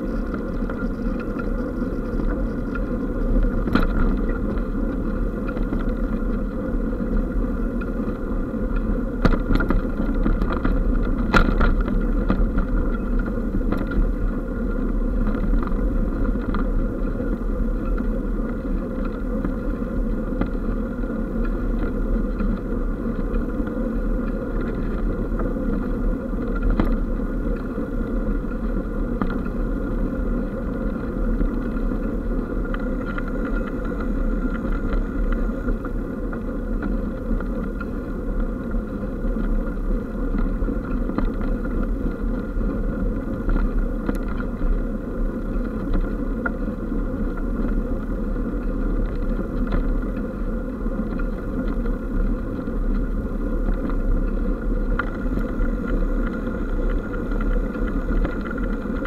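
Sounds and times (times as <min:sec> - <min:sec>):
bike tyre rumble and rattle: 0:00.0 - 0:59.0.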